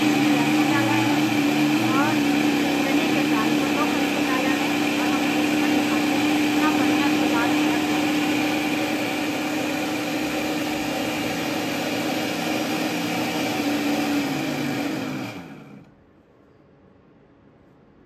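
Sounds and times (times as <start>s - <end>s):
mixer grinder motor running: 0.0s - 16.0s.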